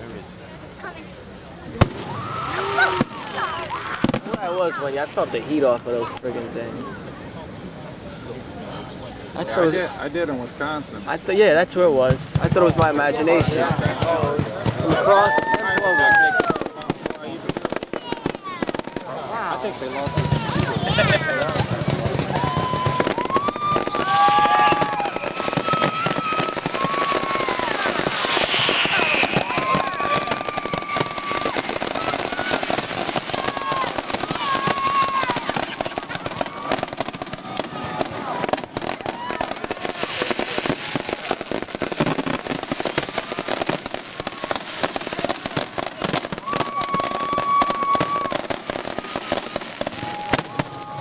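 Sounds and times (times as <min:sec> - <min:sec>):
fireworks whistling: 0:00.6 - 0:51.0
fireworks bursting with crackle: 0:00.7 - 0:51.0.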